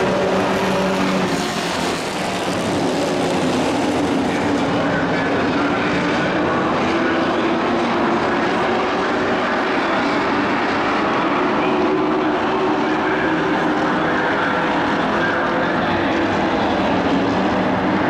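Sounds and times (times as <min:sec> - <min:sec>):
race truck engines droning: 0:00.0 - 0:18.0.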